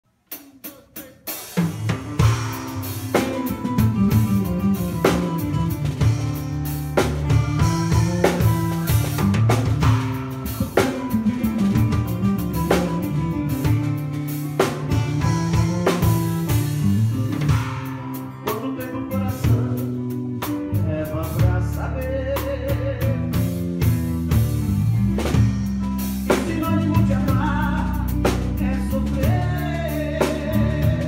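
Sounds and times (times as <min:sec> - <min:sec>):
drum kit and bass groove: 0:00.1 - 0:31.0.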